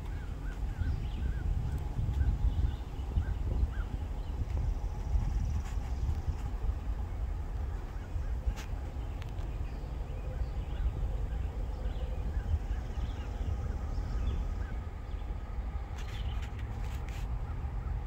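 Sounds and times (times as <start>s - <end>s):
birds chirping: 0.0s - 18.0s
low steady rumble: 0.0s - 18.0s.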